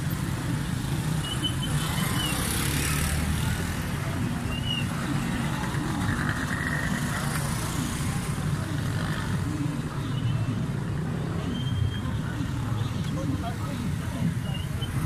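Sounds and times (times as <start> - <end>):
motorcycle and rickshaw engines: 0.0 - 15.0.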